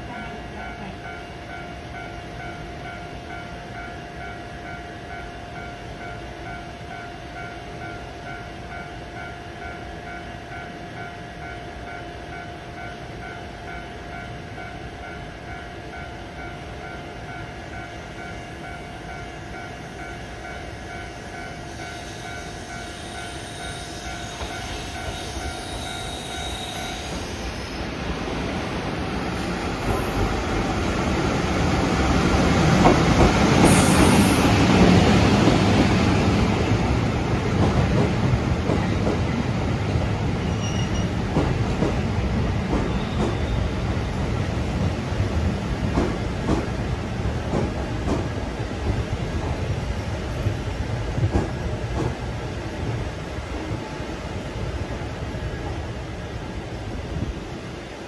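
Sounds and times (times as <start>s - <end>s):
train wheel and motor rumble: 0.0s - 58.0s.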